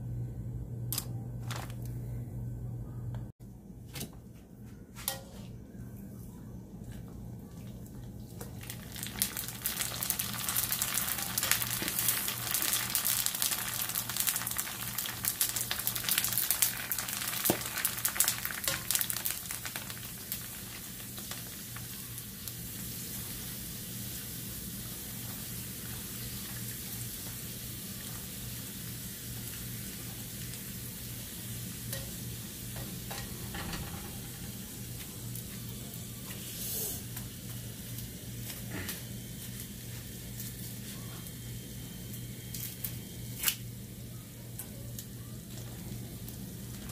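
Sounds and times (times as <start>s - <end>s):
dough frying in hot oil: 6.9s - 46.9s.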